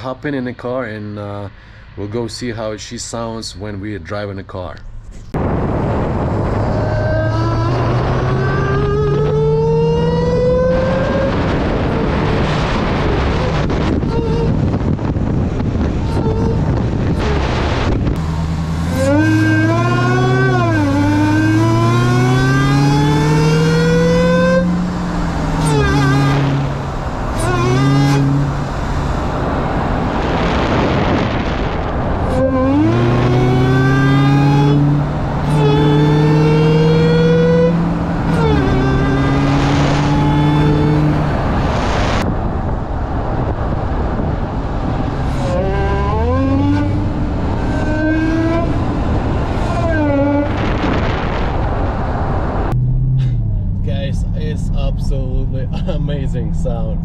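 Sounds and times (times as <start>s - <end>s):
car engine accelerating hard: 5.1s - 57.0s.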